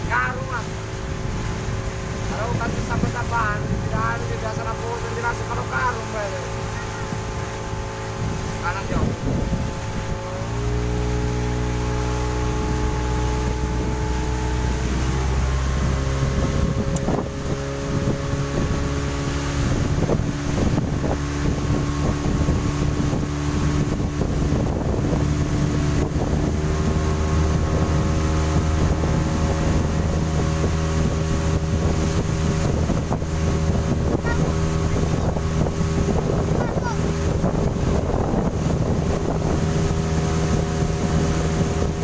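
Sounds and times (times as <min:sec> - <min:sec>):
outboard motor running: 0:00.0 - 0:42.0
wind buffeting microphone: 0:00.0 - 0:42.0.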